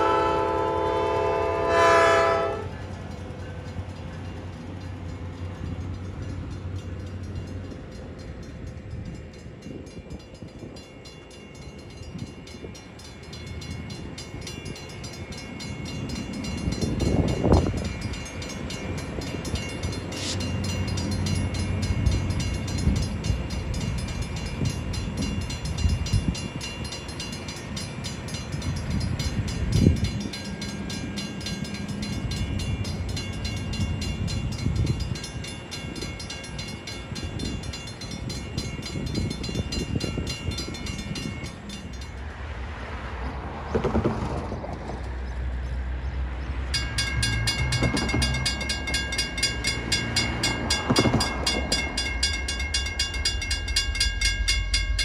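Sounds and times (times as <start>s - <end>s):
train rumbling on tracks: 0.0s - 55.0s.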